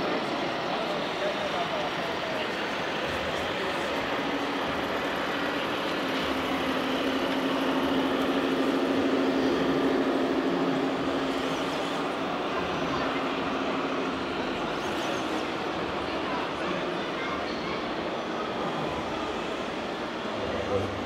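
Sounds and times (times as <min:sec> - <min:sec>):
crowd murmur: 0:00.0 - 0:21.0.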